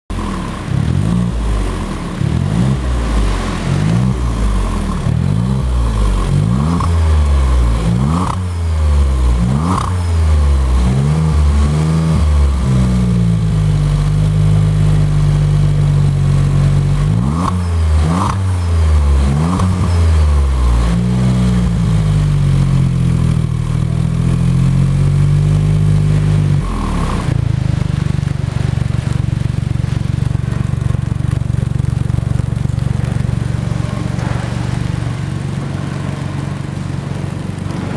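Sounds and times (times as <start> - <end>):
car engine revving: 0.1 - 37.9.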